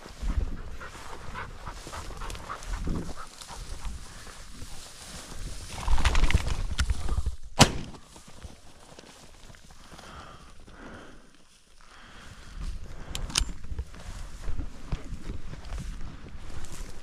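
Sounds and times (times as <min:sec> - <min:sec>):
footsteps through dry grass: 0:00.0 - 0:17.0.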